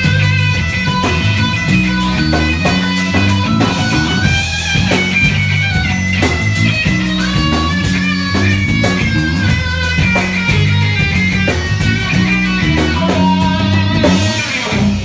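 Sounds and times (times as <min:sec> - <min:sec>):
bass guitar line: 0:00.0 - 0:15.0
drum kit: 0:00.0 - 0:15.0
electric guitar sustained high notes: 0:00.0 - 0:15.0.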